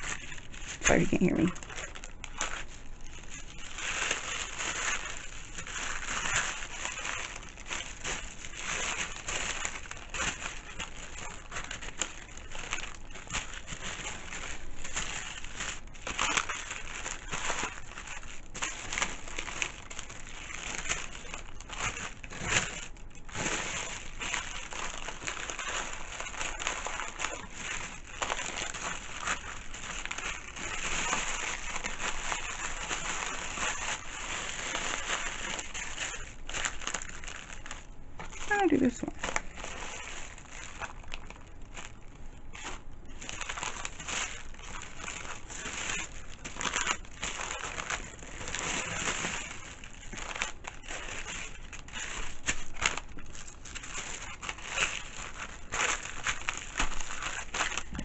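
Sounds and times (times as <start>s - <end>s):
paper rustling and crinkling: 0.0s - 58.0s.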